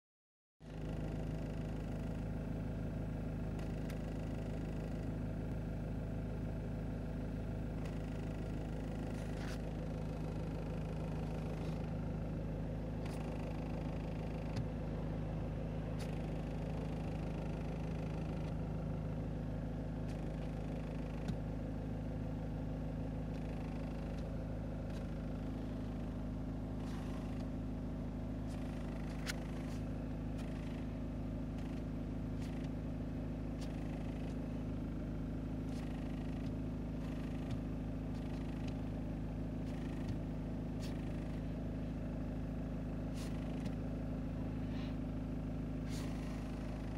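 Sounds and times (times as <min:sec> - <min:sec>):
car interior hum: 0:00.6 - 0:46.9.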